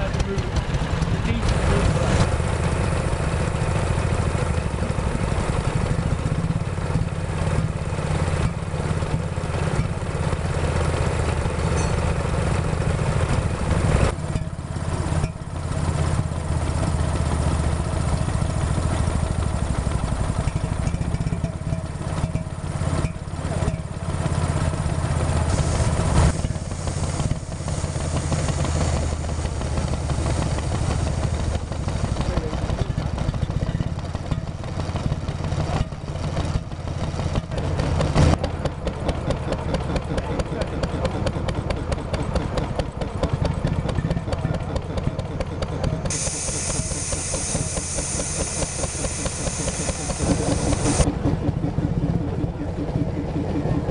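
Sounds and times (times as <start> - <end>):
stationary engines running: 0.0 - 53.9.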